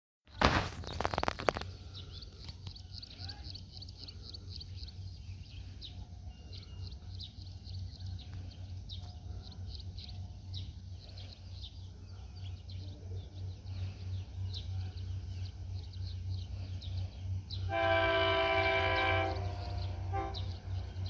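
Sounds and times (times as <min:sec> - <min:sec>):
small birds chirping: 0:00.7 - 0:21.0
low rumble: 0:01.6 - 0:21.0.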